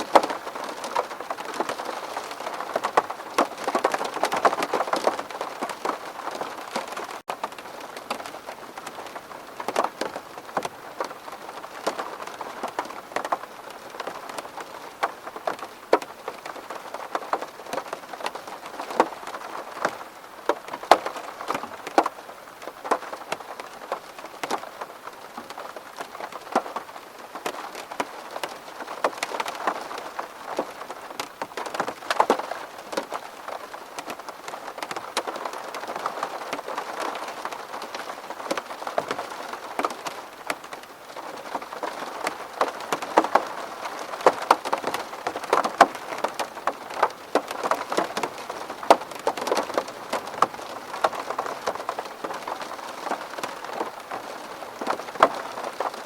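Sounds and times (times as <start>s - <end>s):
rain tapping on window: 0.0s - 56.0s.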